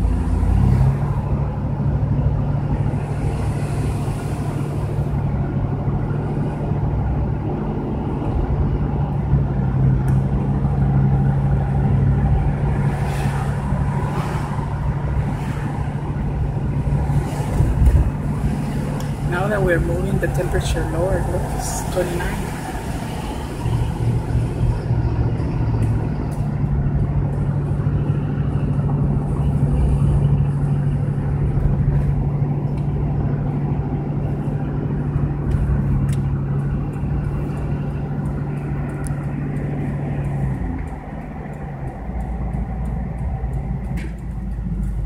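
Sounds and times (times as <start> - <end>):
car engine drone: 0.0 - 45.0
tyre and road noise: 0.0 - 45.0.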